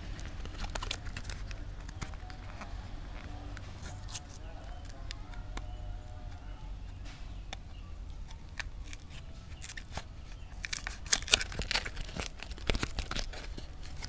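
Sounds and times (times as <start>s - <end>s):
paperboard pack tearing and crackling: 0.0s - 6.0s, 8.3s - 14.0s.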